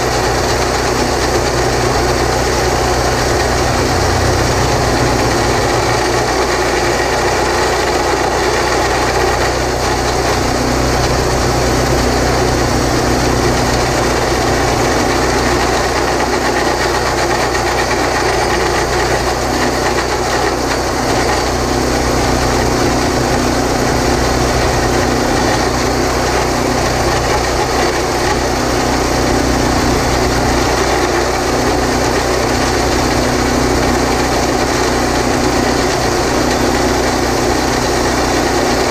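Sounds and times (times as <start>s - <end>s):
boring machine engine: 0.0s - 38.9s
reamer grinding concrete: 0.0s - 38.9s.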